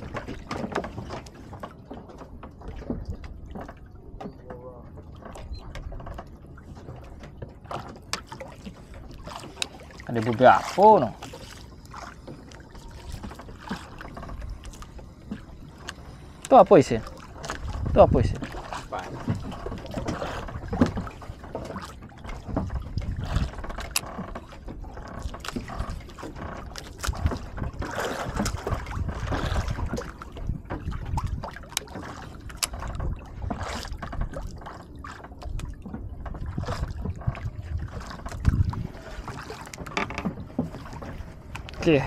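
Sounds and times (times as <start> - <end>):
water lapping against boat hull: 0.0 - 42.0.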